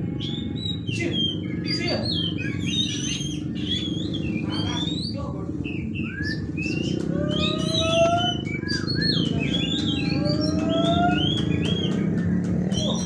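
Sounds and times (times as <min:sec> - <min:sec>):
birds singing and whistling: 0:00.0 - 0:13.0.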